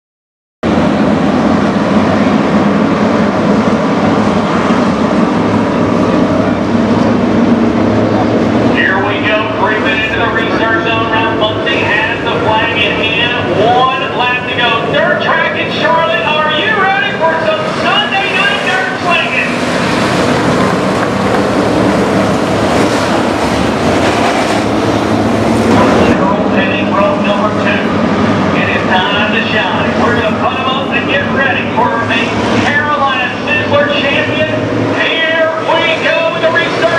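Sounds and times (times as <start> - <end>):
race car engines droning: 0.6 - 36.9.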